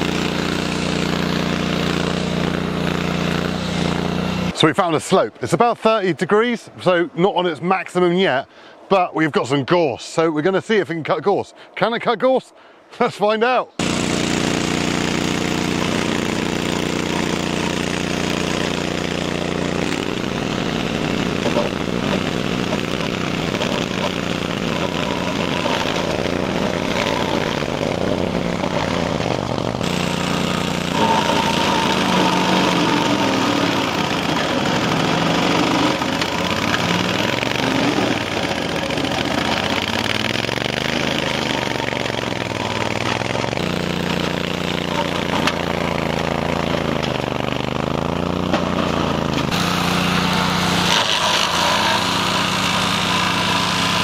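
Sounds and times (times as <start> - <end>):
mower engine running hard: 0.0 - 4.6, 13.8 - 54.0
rotary blade cutting brush: 0.0 - 4.6, 13.8 - 54.0.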